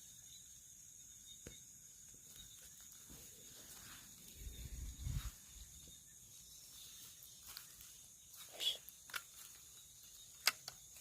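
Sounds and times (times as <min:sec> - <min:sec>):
crickets trilling: 0:00.0 - 0:11.0
rustling: 0:02.0 - 0:11.0.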